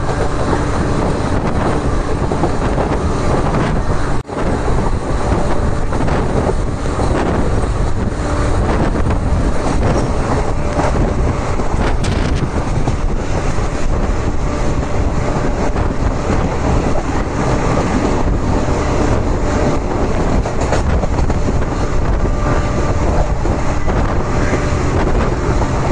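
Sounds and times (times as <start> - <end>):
air rushing past microphone: 0.0 - 25.9
train wheels rumbling on rails: 0.0 - 25.9.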